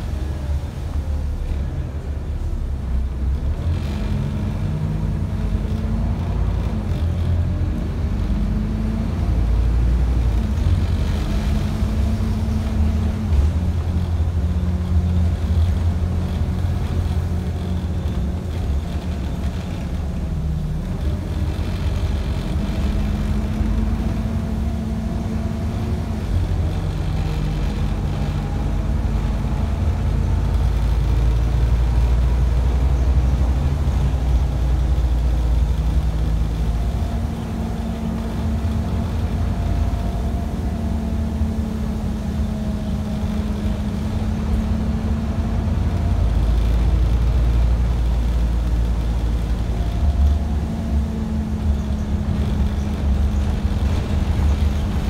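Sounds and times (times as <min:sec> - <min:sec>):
bus engine drone: 0:00.0 - 0:55.0
road rumble: 0:00.0 - 0:55.0.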